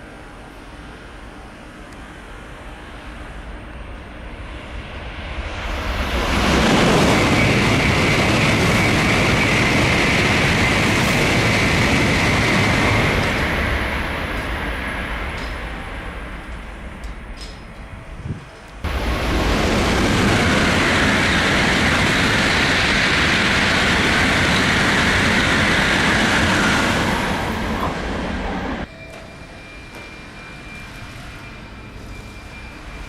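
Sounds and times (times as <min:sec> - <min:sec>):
high-speed train passing: 0:00.0 - 0:33.0.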